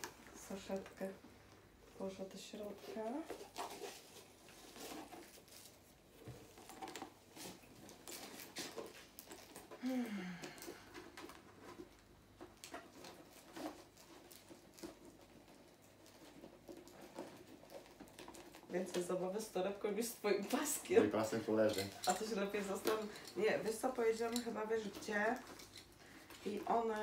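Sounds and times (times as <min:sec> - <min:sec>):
bag rustling and clicking: 0:02.1 - 0:09.8, 0:10.5 - 0:19.6, 0:20.6 - 0:27.0.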